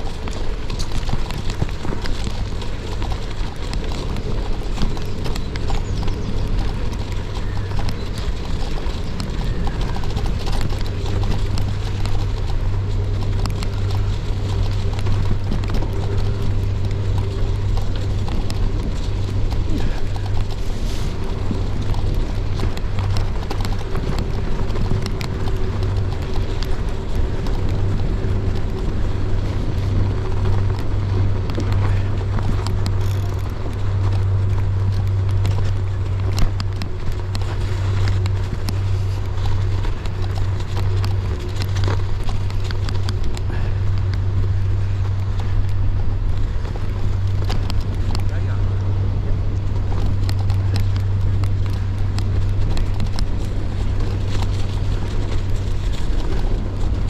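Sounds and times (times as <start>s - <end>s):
bike tyres rolling on snow: 0.0s - 57.0s
crunches and clicks: 0.0s - 57.0s.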